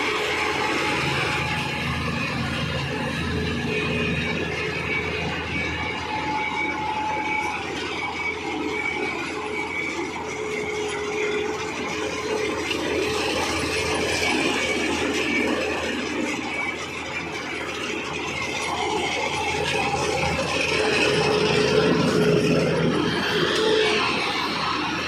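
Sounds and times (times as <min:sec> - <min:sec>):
combine harvester clattering: 0:00.0 - 0:25.0.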